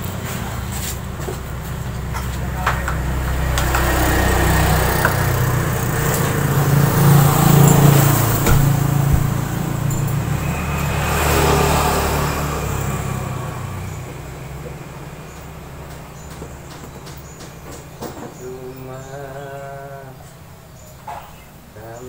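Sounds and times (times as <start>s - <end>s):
vehicle engine running: 0.0s - 19.4s.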